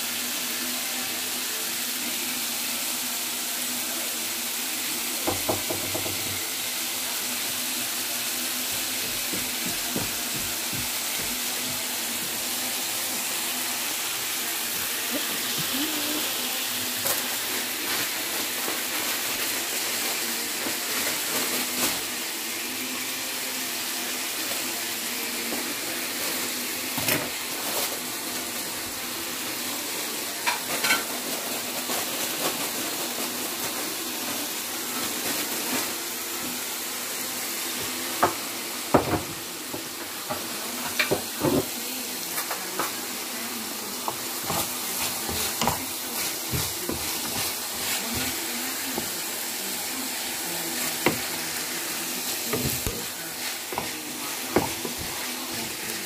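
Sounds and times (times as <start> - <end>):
food sizzling in a hot pan: 0.0 - 56.0.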